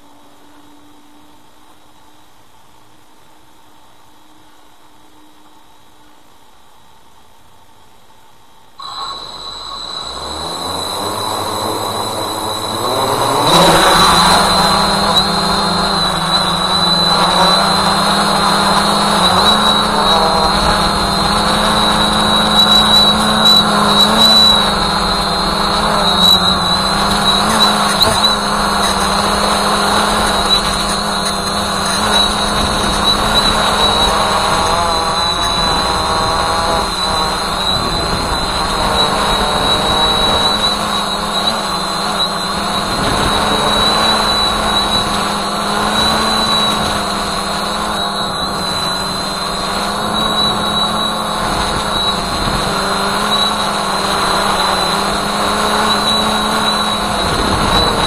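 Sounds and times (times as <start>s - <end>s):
drone motors high whine: 0.0s - 2.4s, 8.6s - 58.0s.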